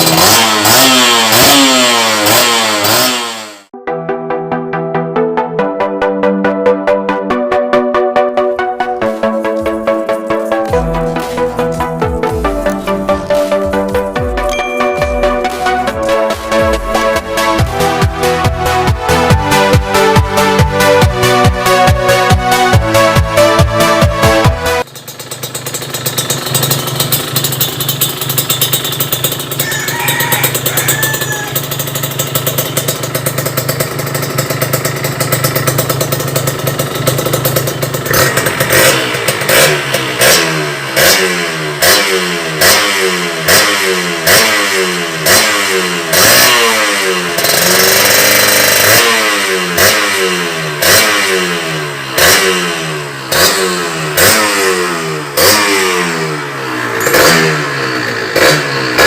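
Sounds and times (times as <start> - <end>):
two-stroke engine idling and revving: 0.0 - 3.8, 7.2 - 59.0.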